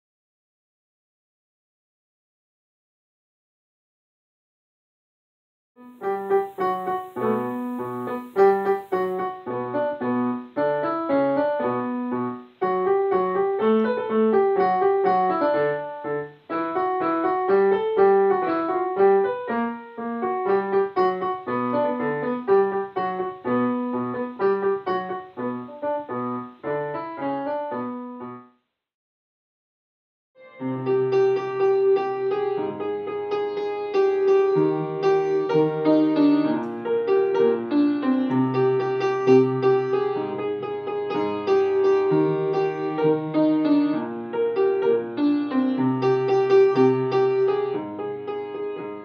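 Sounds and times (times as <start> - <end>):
piano melody over bass pattern: 5.8 - 28.5, 30.4 - 49.0.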